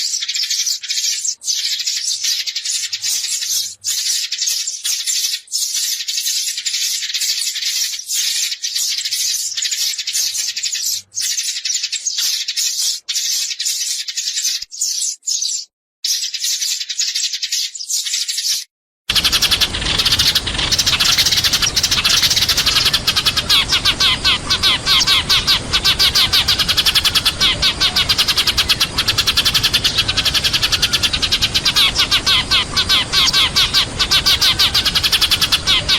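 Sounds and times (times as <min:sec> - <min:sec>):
sparrows chattering: 0:00.0 - 0:35.9.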